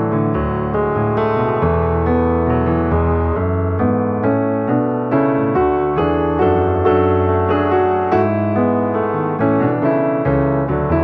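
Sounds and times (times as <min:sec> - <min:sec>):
background piano music: 0:00.0 - 0:11.0.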